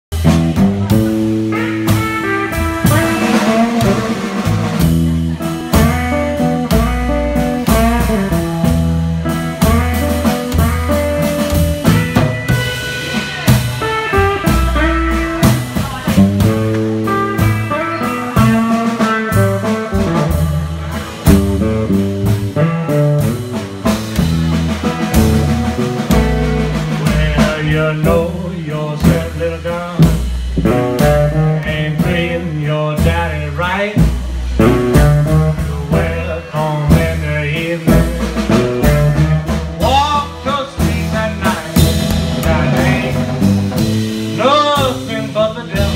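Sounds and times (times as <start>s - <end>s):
drums: 0.0s - 45.9s
upright bass line: 0.0s - 45.9s.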